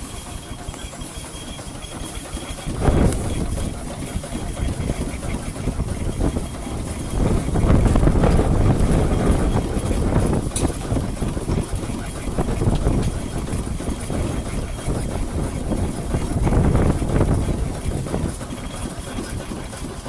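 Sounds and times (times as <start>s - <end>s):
steam engine running: 0.0s - 20.0s.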